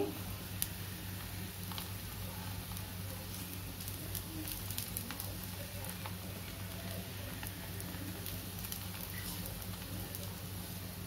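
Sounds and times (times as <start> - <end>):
batter sizzling on hot griddle: 0.0 - 11.0
low steady hum: 0.0 - 11.0.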